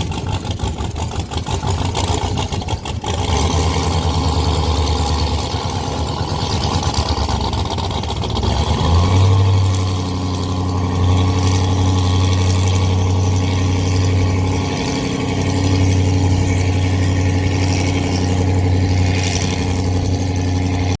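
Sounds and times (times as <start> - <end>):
boat engines running: 0.0 - 21.0.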